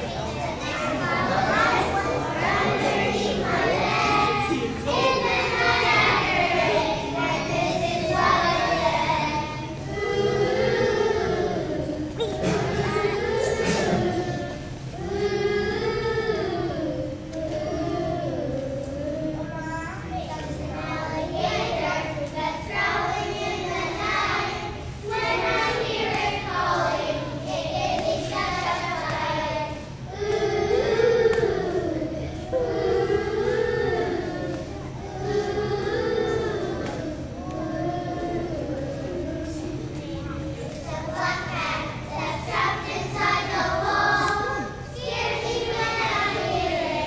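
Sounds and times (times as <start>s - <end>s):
children singing together: 0.0s - 47.0s.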